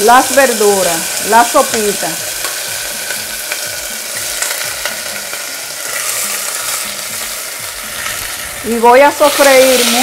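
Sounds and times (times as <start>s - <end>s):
sauce sizzling in hot oil: 0.0s - 10.0s.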